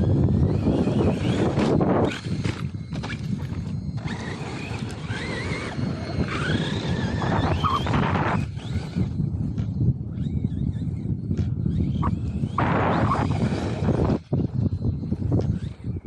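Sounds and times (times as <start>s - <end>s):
toy truck motor whining: 0.0s - 16.0s
wind buffeting microphone: 0.0s - 16.0s.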